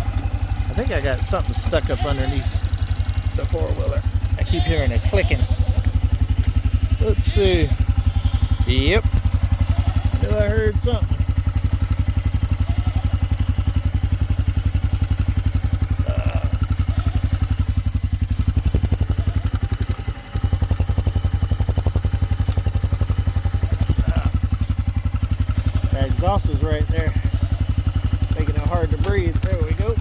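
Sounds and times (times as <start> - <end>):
atv engine idling: 0.0 - 30.0.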